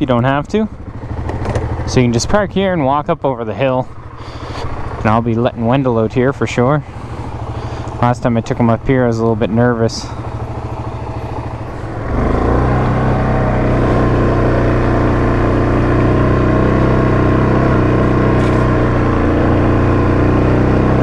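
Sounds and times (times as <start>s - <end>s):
atv engine pulling under load: 0.0s - 21.0s.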